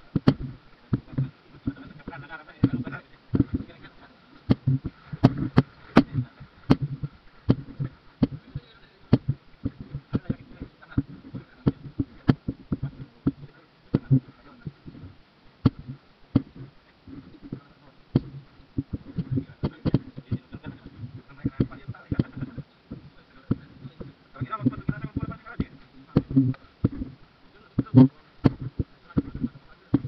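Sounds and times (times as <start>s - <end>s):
low voices murmuring: 0.0s - 30.0s.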